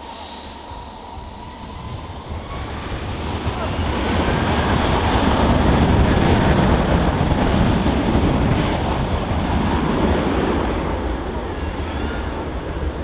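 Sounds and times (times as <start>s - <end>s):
jet engines of landing airliner: 0.0s - 13.0s.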